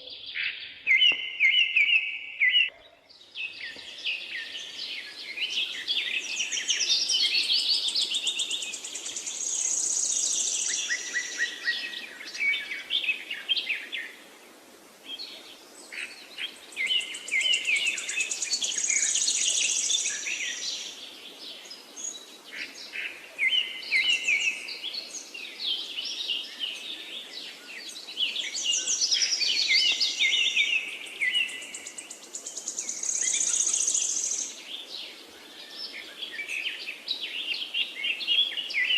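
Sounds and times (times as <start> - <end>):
birds chirping and trilling: 0.0 - 14.2, 15.0 - 38.9.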